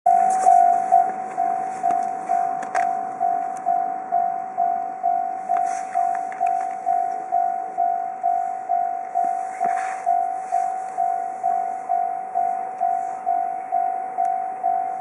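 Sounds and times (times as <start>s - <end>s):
level crossing bell ringing: 0.1s - 15.0s.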